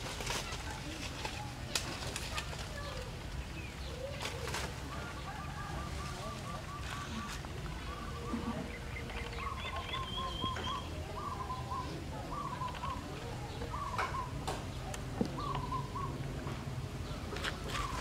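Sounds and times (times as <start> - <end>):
bird calling: 2.7 - 16.3, 17.0 - 18.0.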